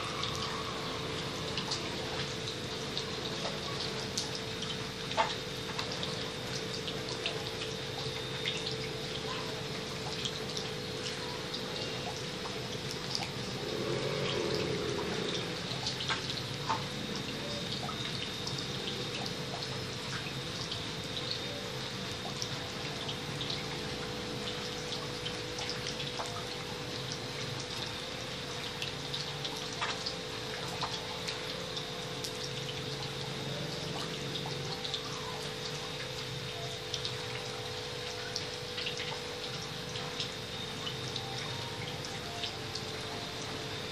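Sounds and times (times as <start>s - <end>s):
refrigerant trickling: 0.0s - 43.9s
refrigerator compressor humming: 0.0s - 43.9s.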